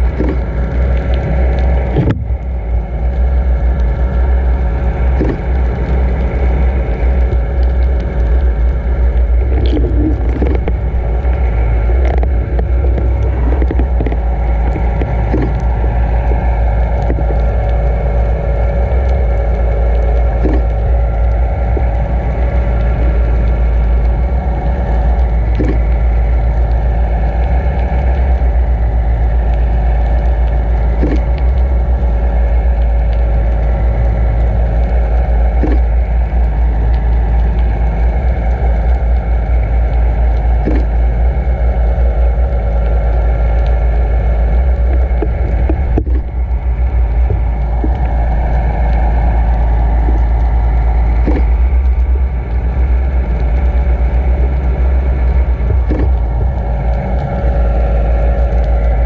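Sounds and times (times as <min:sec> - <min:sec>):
boat engine hum underwater: 0:00.0 - 0:59.0
low underwater rumble: 0:00.0 - 0:59.0
faint clicks: 0:00.1 - 0:04.3, 0:05.0 - 0:59.0.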